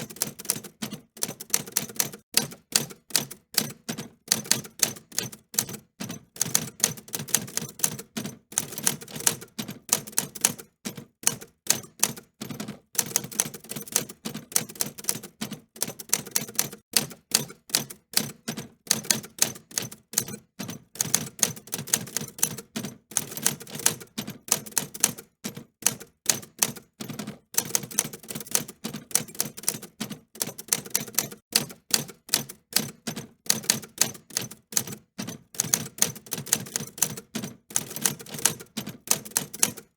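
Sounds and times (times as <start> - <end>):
typewriter keys clicking: 0.0 - 10.7, 11.3 - 39.9.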